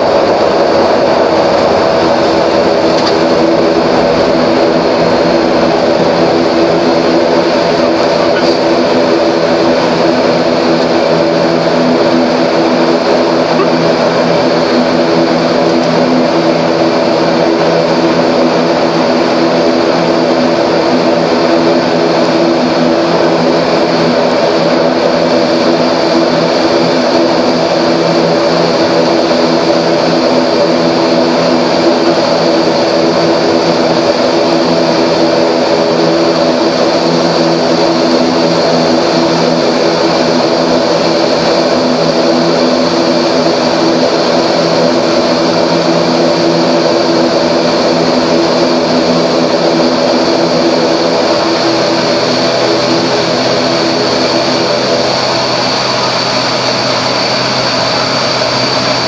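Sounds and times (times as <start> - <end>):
turboprop engines humming: 0.0 - 59.0.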